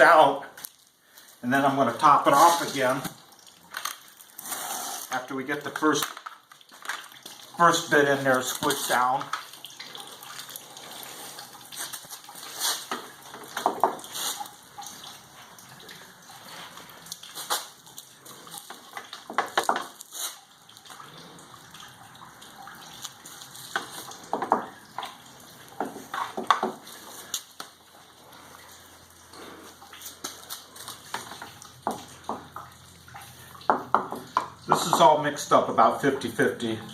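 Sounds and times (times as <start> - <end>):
wet pulp scraping and squelching: 0.0 - 35.3
water sounds: 0.0 - 36.9.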